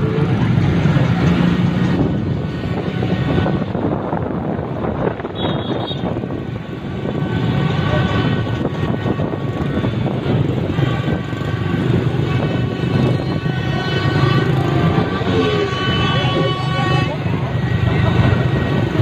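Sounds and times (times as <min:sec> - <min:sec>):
horns blasting: 0:00.0 - 0:04.4, 0:05.0 - 0:19.0
motorbike engines running: 0:00.0 - 0:19.0
wind on microphone: 0:00.0 - 0:19.0.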